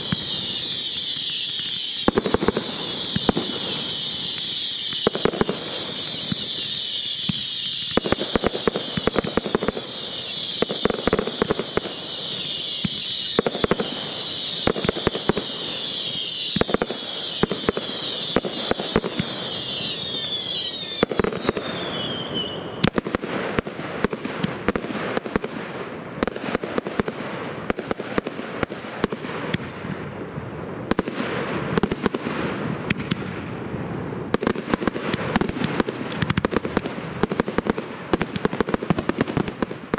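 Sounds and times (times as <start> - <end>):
fireworks banging: 0.0 - 39.9
fireworks crackling: 0.0 - 39.9
high whistling of fireworks: 0.0 - 39.9.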